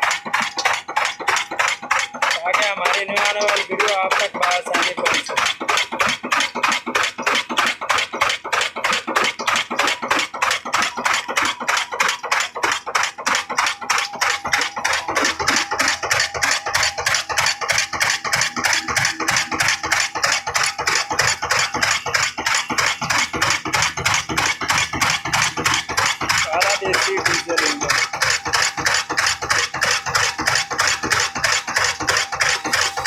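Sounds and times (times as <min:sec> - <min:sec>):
diesel engine knocking: 0:00.0 - 0:33.0.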